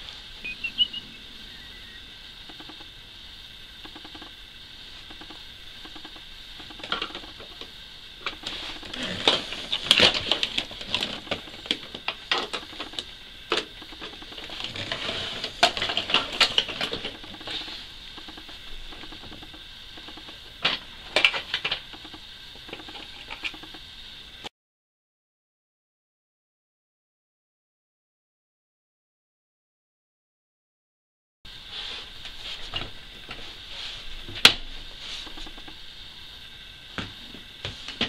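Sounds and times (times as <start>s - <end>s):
steady background hiss: 0.0s - 24.5s, 31.5s - 38.0s.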